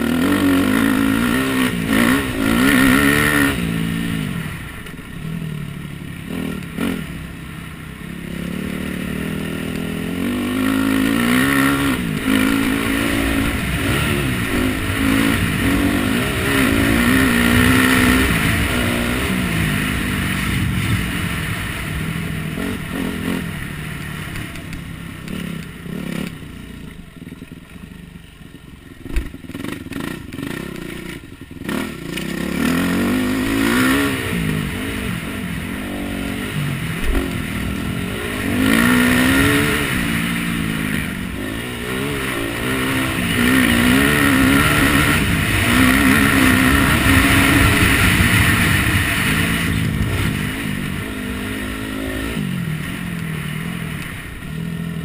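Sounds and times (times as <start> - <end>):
dirt bike engine revving: 0.0 - 27.4, 29.0 - 55.0.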